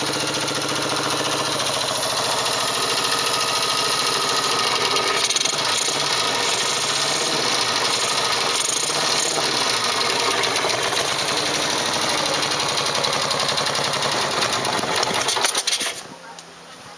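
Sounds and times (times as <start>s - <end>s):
motorcycle engine idling: 0.0s - 15.4s.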